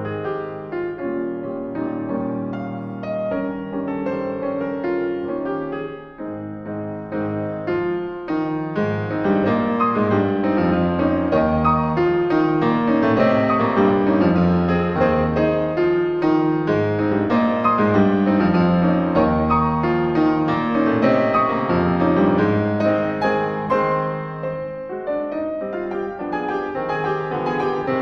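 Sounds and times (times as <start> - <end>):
piano playing: 0.0 - 28.0.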